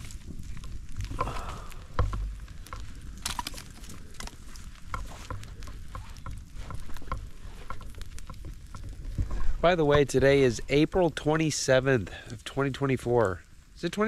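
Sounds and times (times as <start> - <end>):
campfire crackling: 0.0 - 14.0
light rain: 0.0 - 14.0.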